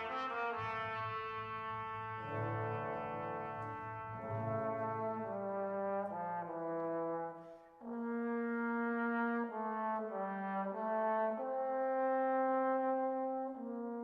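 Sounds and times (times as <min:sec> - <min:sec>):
slow brass melody: 0:00.0 - 0:14.0.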